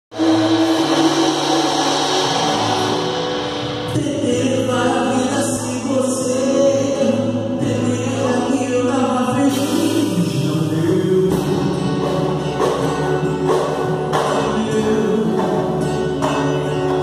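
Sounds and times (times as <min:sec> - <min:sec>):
acoustic guitar: 0:00.1 - 0:17.0.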